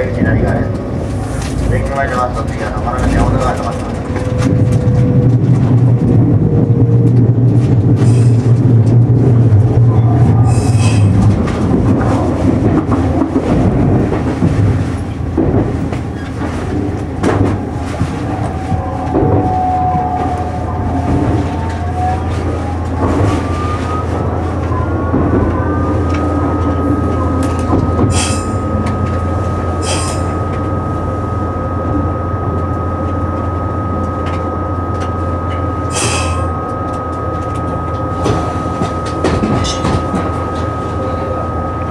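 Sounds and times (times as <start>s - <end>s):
train motor whine: 0.0s - 41.9s
train wheels rumbling on rails: 0.0s - 41.9s.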